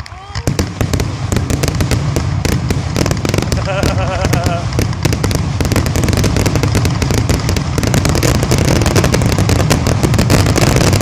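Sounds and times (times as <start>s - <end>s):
fireworks bursting in rapid bangs: 0.0s - 11.0s.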